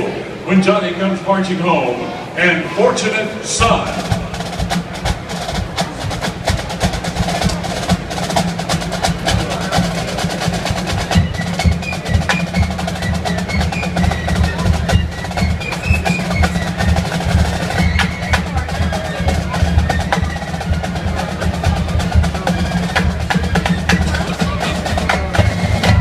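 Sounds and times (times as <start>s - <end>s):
high melody notes: 2.4s - 26.0s
snare drum rolls: 3.4s - 26.0s
bass drums: 3.6s - 26.0s.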